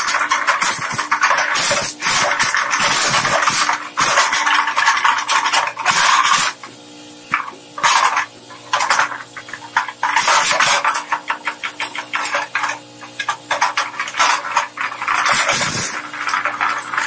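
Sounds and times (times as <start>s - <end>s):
shredder motor hum: 0.0s - 17.0s.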